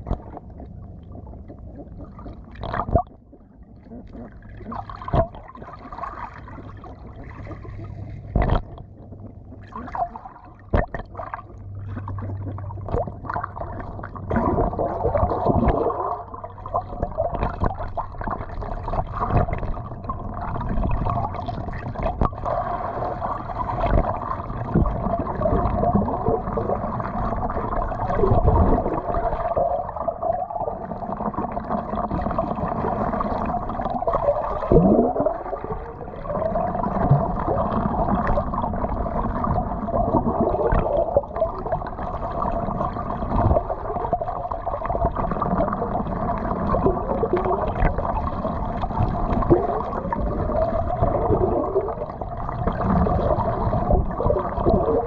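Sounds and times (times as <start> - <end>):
underwater splashing and bubbling: 0.0 - 55.0
falling bubbly sweep: 4.6 - 55.0.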